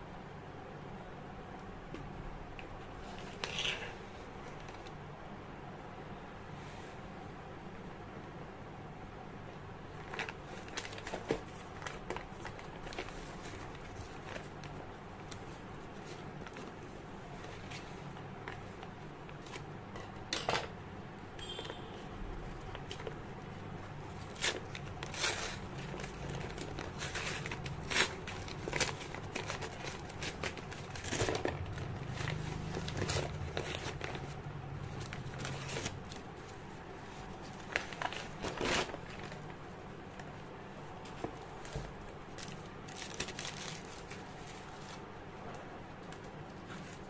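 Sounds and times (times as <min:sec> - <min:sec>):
low steady hum: 0:00.0 - 0:47.0
paper crinkling and rustling: 0:03.0 - 0:05.0, 0:09.9 - 0:20.8, 0:21.4 - 0:47.0.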